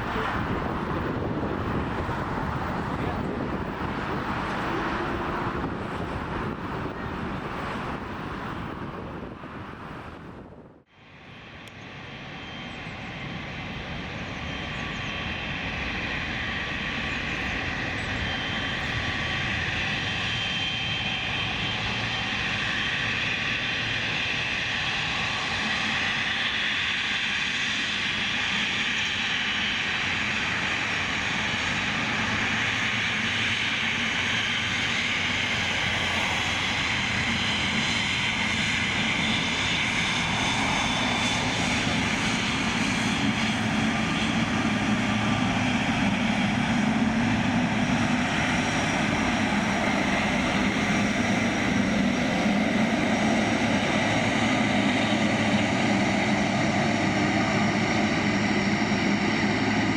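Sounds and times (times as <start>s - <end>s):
high engine whine: 0.0s - 59.9s
jet engines rumbling: 0.0s - 59.9s.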